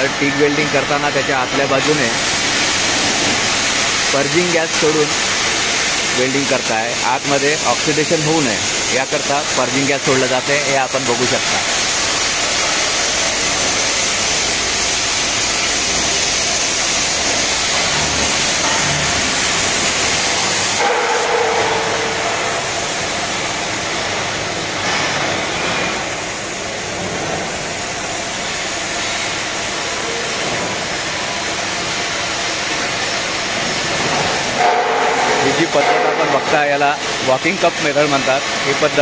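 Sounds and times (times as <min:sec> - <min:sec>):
welding hiss: 0:00.0 - 0:39.0.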